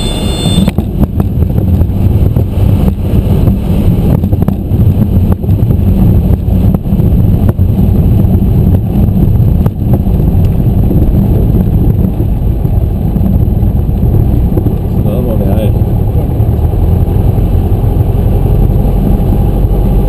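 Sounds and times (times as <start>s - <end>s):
aircraft engine rumble: 0.0s - 20.0s.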